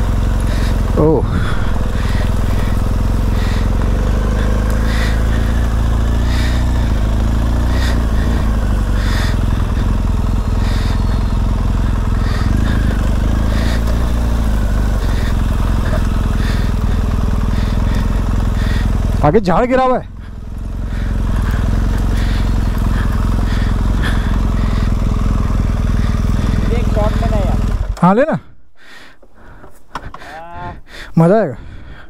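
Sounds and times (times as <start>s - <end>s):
dirt bike engine running: 0.0s - 28.2s.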